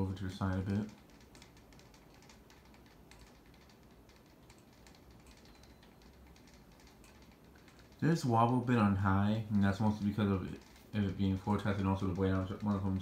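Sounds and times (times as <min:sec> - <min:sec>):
ceiling fan motor running: 0:00.0 - 0:13.0
light irregular ticking: 0:00.0 - 0:13.0.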